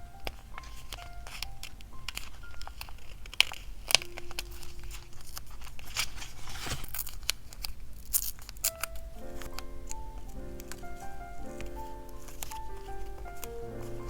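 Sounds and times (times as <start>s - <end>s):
paper crinkling and tearing: 0.1s - 14.0s
sticker peeling: 0.1s - 14.0s.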